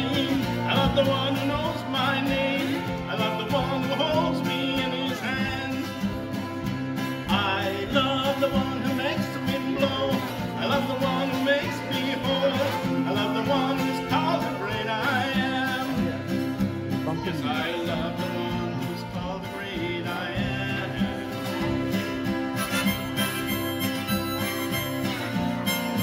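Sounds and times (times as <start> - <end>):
acoustic guitar chords: 0.0 - 26.0
harmonica: 0.0 - 26.0.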